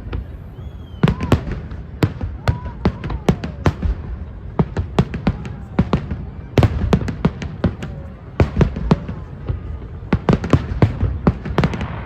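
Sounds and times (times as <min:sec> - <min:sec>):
distant explosions rumbling: 0:00.0 - 0:12.0
fireworks bangs: 0:00.0 - 0:12.0.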